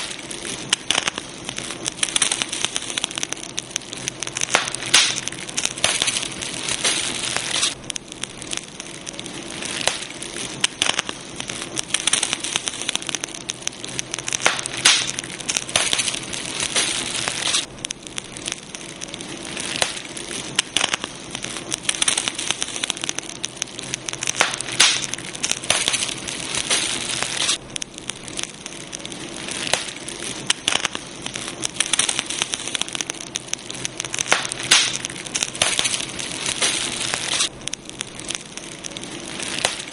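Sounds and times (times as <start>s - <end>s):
fire hissing: 0.0s - 39.9s
wood crackling and popping: 0.0s - 39.9s.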